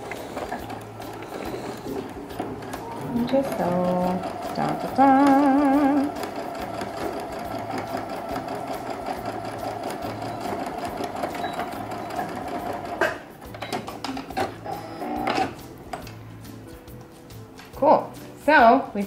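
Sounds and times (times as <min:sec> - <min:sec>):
sewing machine stitching: 0:00.0 - 0:15.6.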